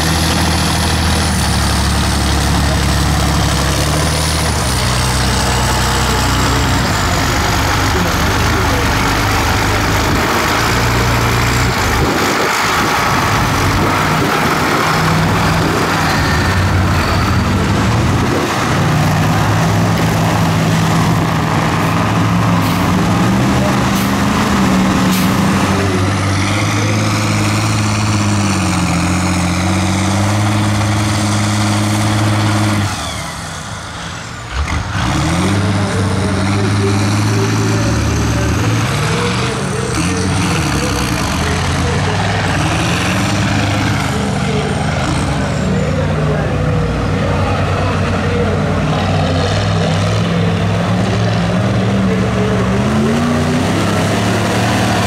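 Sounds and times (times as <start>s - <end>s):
truck engines revving in mud: 0.0s - 55.0s.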